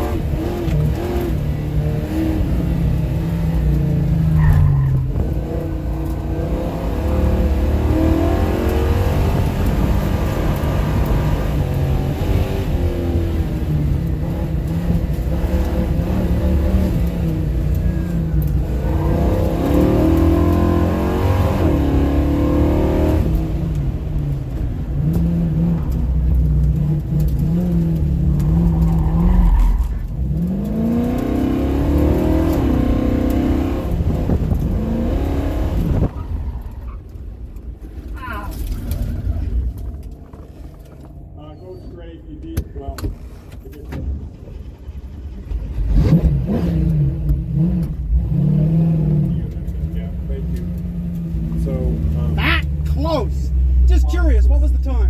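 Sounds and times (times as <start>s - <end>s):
car engine accelerating hard: 0.0s - 55.0s.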